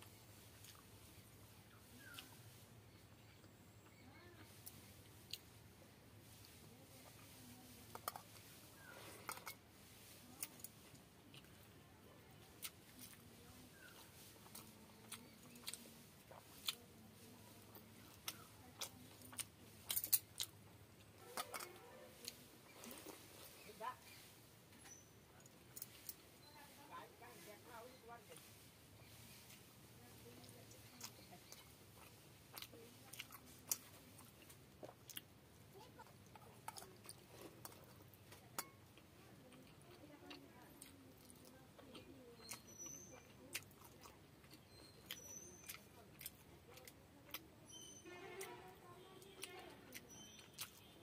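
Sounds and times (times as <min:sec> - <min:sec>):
person chewing food: 0:00.0 - 0:26.5, 0:28.2 - 0:51.0.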